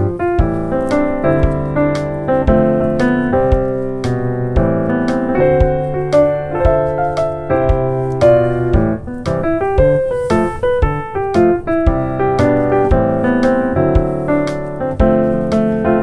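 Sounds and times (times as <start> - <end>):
gentle piano melody with chords: 0.0 - 16.0.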